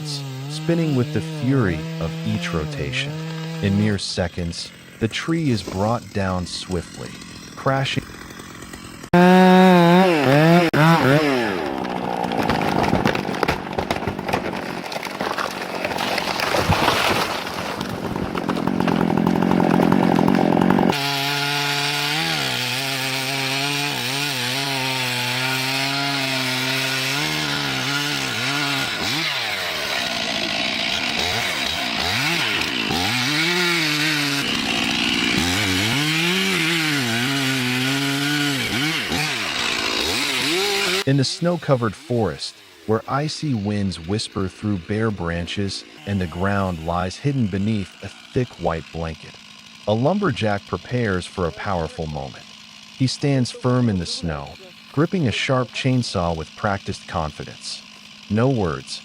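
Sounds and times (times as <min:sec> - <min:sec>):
chainsaws cutting timber: 0:00.0 - 0:59.0.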